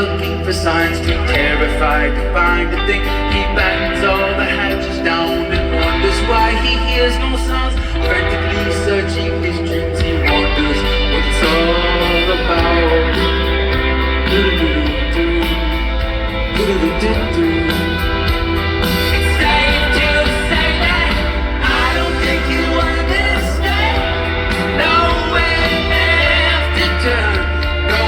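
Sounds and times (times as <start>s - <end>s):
heavy bass: 0.0s - 28.0s
man singing: 0.0s - 28.0s
rock band playing live: 0.0s - 28.0s.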